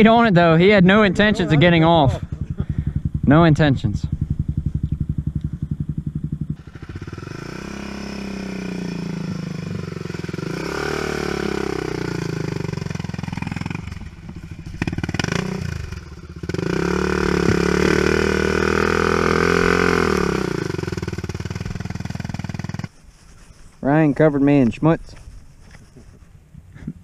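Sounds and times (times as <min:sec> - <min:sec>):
atv engines revving: 0:00.0 - 0:22.9.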